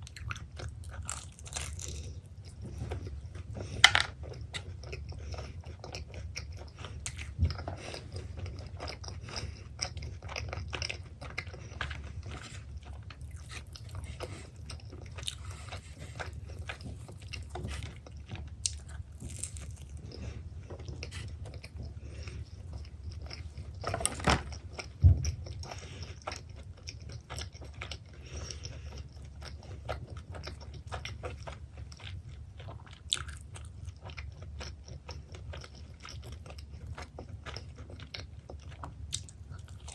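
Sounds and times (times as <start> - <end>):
person chewing pizza: 0.0 - 39.9.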